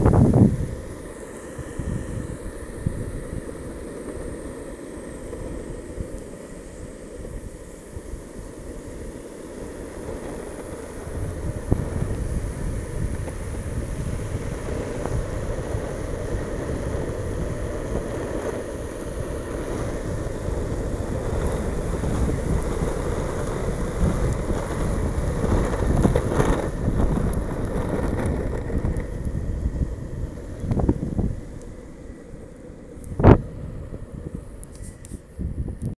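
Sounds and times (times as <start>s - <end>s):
longboard wheels rolling on asphalt: 0.0s - 36.0s
wind buffeting microphone: 0.0s - 36.0s.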